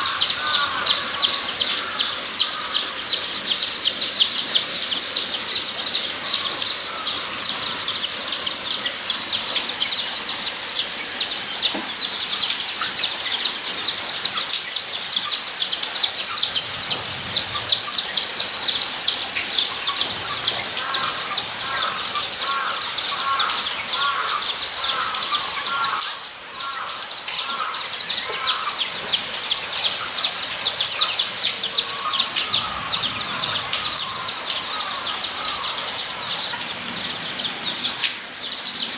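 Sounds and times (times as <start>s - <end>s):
lower calls: 0.0s - 38.9s.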